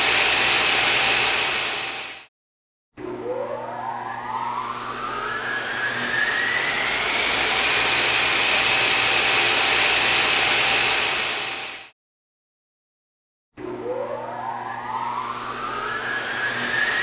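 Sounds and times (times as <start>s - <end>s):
machine whine spinning up: 0.0s - 2.3s, 3.0s - 11.9s, 13.6s - 17.0s.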